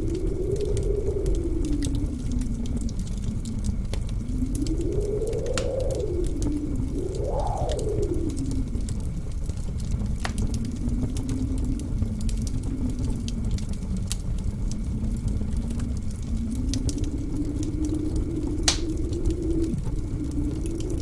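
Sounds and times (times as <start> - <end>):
blizzard wind howling: 0.0 - 21.0
wood fire crackling and popping: 0.0 - 21.0.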